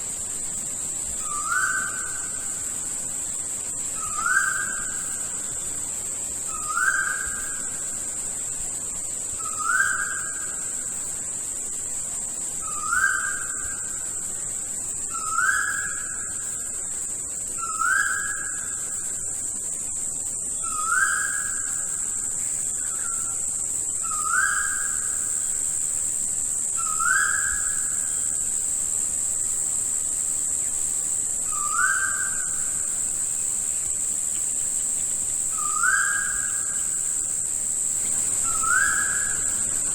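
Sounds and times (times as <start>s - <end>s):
high-pitched insect buzz: 0.0s - 39.9s.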